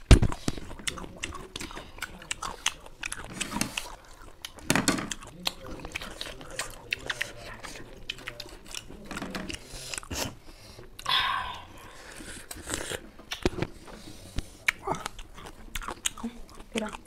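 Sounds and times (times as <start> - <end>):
people chewing lemon slices: 0.0 - 17.0.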